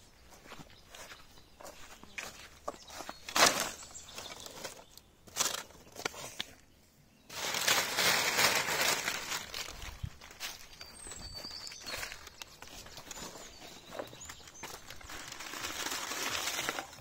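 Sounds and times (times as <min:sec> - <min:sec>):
dry leaves crunching: 0:00.2 - 0:06.2, 0:07.3 - 0:17.0.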